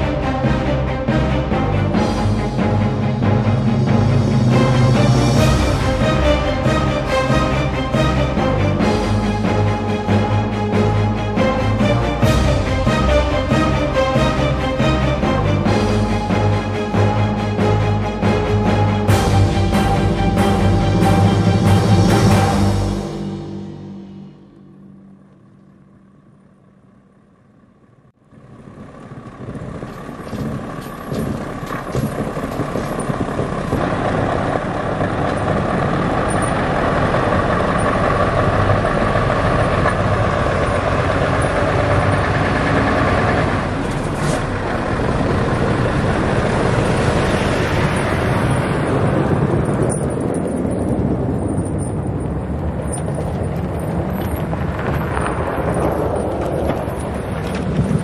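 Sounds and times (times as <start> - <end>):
snow-chained tyres on snowy road: 0.0 - 58.0
truck engine running: 0.0 - 58.0.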